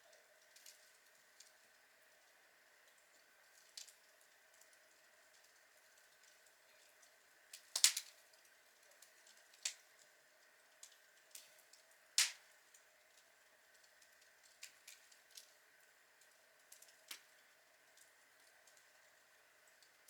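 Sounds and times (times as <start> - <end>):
log fire crackling: 0.4 - 2.2, 2.8 - 20.0.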